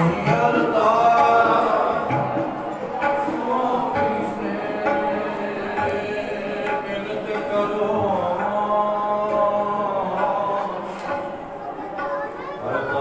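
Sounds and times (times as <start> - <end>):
hymn singing: 0.0 - 13.0.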